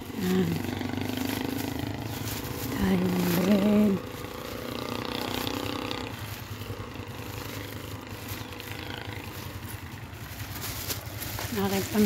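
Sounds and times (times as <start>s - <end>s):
low street rumble: 0.0s - 12.0s
vehicle engine humming: 0.0s - 12.0s.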